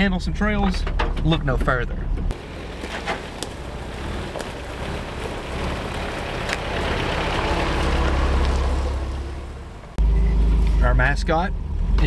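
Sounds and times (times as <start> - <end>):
truck engine running: 0.0 - 11.9.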